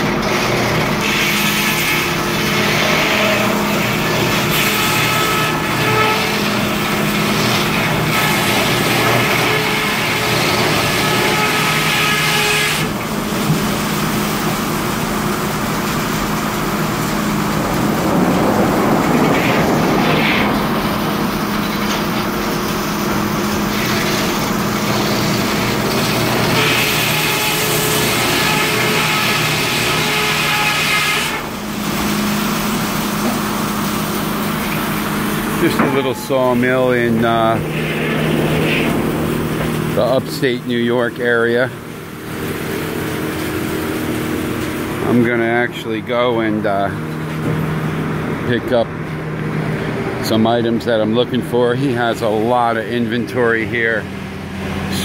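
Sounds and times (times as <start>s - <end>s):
circular saw cutting log: 0.0s - 17.8s, 19.0s - 47.4s.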